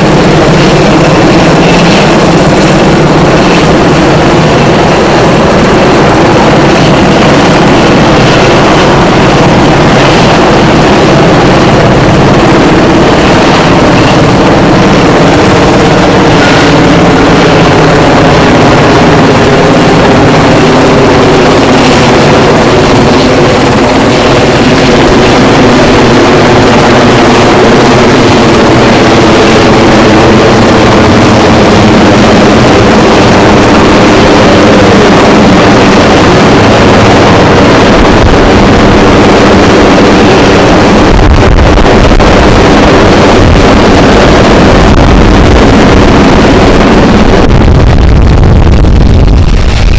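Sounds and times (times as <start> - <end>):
helicopter turbine and rotors: 0.0 - 49.9.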